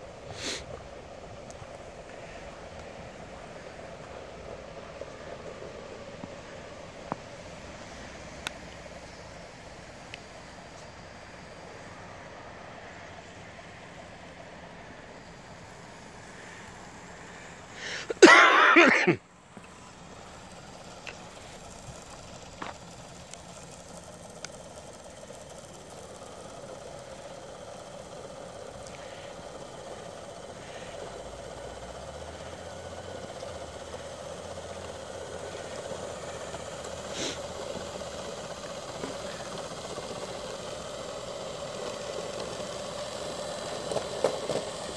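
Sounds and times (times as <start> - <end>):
toy truck motors humming: 0.0 - 44.9.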